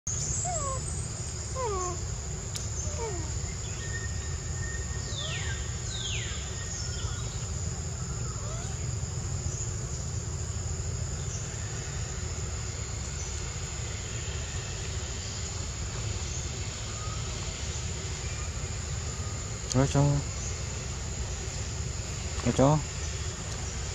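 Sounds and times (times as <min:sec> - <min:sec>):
insects droning: 0:00.1 - 0:23.9
low steady rumble: 0:00.1 - 0:23.9.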